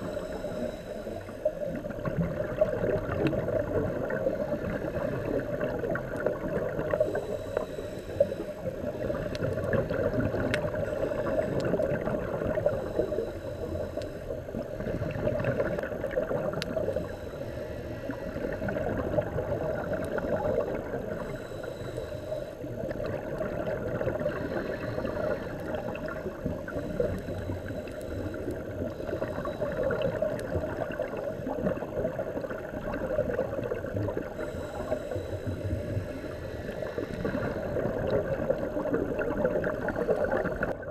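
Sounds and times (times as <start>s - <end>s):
muffled underwater rushing: 0.0s - 40.9s
regulator bubbles: 0.0s - 40.9s.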